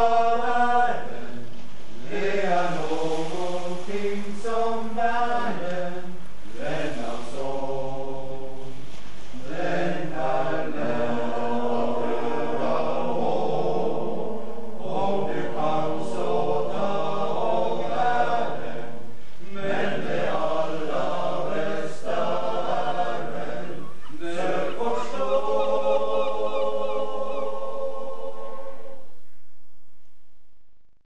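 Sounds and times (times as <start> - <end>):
voices singing held notes: 0.0 - 29.2.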